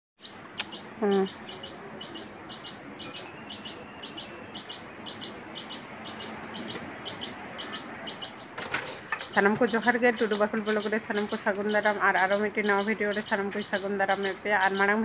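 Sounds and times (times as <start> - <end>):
bird chirping: 0.2 - 15.0.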